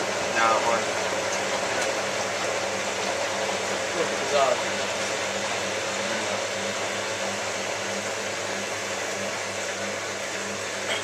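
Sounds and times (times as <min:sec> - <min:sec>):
washing machine draining whir: 0:00.0 - 0:11.0.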